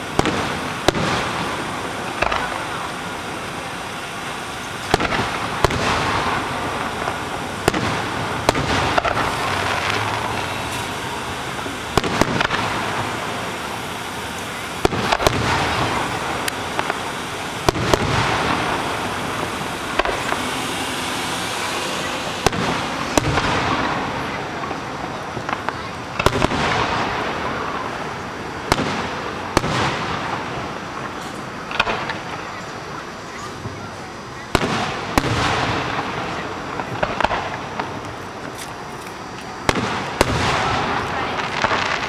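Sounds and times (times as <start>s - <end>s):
firework shells bursting: 0.0s - 32.8s, 34.5s - 42.0s
continuous crackling hiss: 0.0s - 42.0s.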